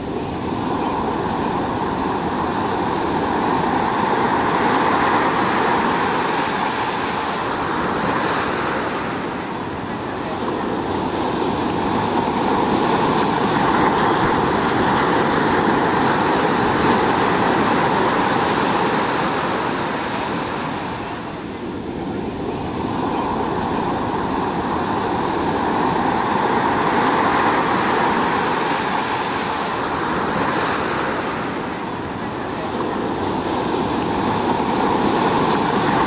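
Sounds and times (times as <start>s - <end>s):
ocean surf washing onto beach: 0.0s - 36.0s.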